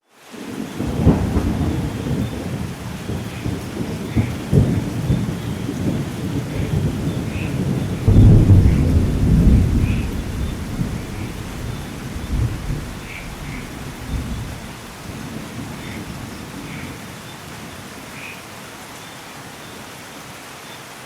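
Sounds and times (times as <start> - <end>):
steady rain: 0.0 - 21.0
thunder claps and rumbles: 0.6 - 17.8.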